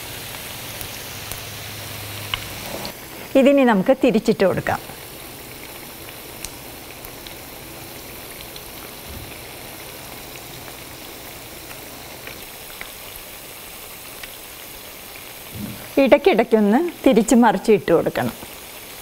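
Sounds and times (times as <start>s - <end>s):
fritters sizzling in oil: 0.0s - 19.0s.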